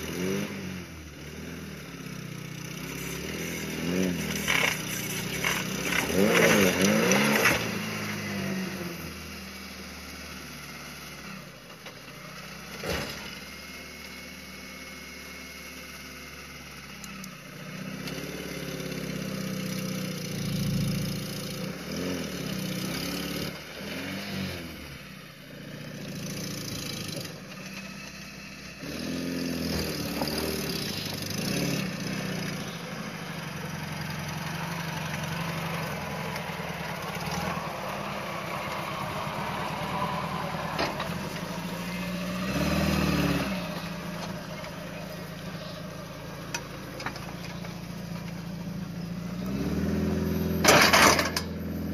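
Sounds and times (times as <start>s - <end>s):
small engine revving and idling: 0.0s - 51.9s.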